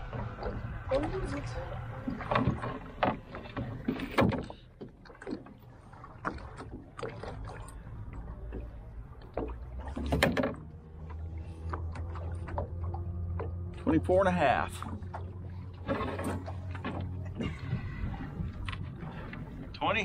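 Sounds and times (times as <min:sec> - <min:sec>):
low rumble: 0:00.0 - 0:04.6, 0:06.8 - 0:20.0
knocks and rattles in metal boat: 0:02.0 - 0:07.7, 0:08.4 - 0:20.0.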